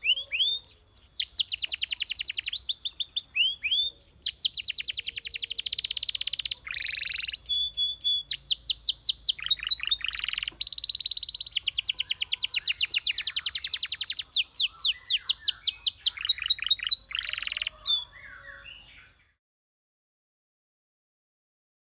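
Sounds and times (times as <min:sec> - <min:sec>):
canary singing trills: 0:00.0 - 0:19.4.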